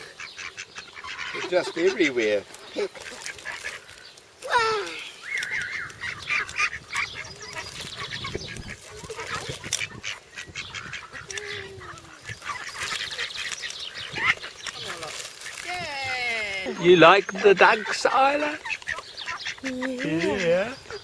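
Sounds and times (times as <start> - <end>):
ducks quacking: 0.0 - 4.0, 5.4 - 21.0.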